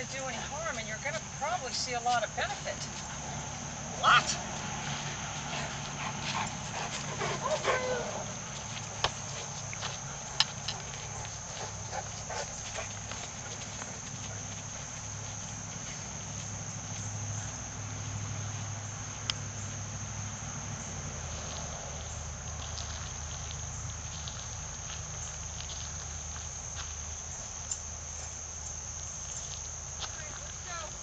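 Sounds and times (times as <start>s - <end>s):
insect chorus: 0.0s - 31.0s.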